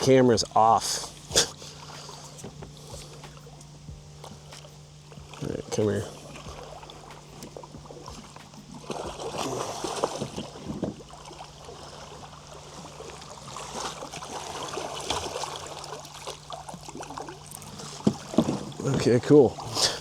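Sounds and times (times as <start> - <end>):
faint low hum: 0.0 - 20.0
water splashing and sloshing: 0.0 - 20.0.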